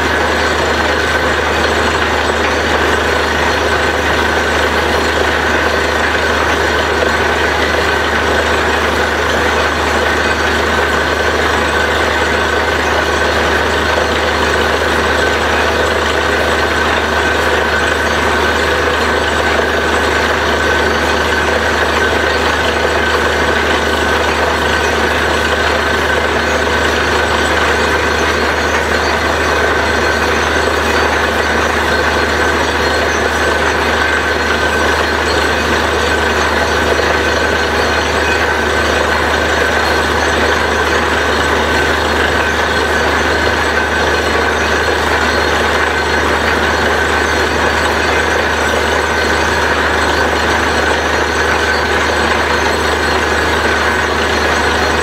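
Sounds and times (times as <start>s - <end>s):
drilling rig engine drone: 0.0s - 55.0s.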